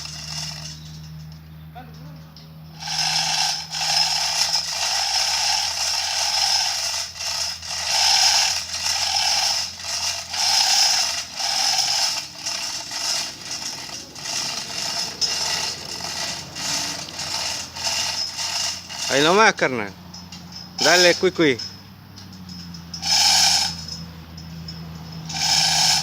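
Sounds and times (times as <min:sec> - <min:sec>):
ratchet pawl clicking: 0:00.0 - 0:01.4, 0:02.8 - 0:26.0
chain rattling through hoist: 0:00.0 - 0:26.0.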